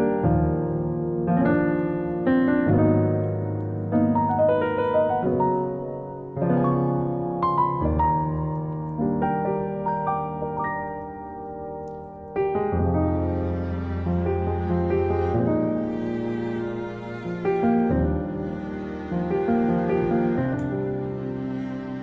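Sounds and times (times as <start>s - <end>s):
gentle piano chords: 0.0s - 22.0s.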